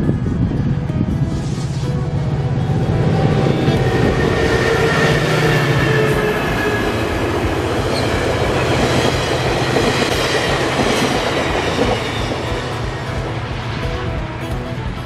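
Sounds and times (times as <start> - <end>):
diesel locomotive engine: 0.0 - 15.0
train wheels rumbling on rails: 2.0 - 15.0.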